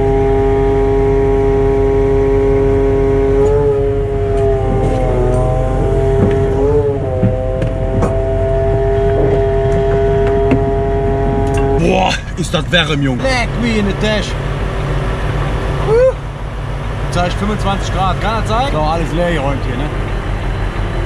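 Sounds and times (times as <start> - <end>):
hydraulic crane whining: 0.0 - 21.0.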